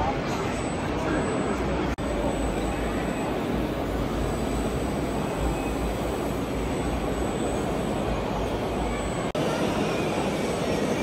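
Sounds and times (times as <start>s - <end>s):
busy hall background roar: 0.0s - 11.0s
faint high whine: 0.3s - 11.0s.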